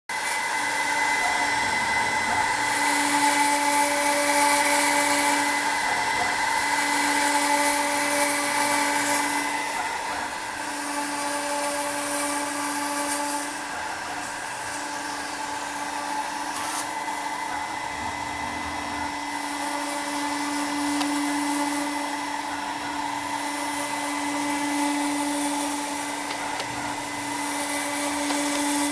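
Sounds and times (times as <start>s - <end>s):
cutter hissing through wood: 0.1s - 28.9s
mill spindle running: 0.1s - 28.9s.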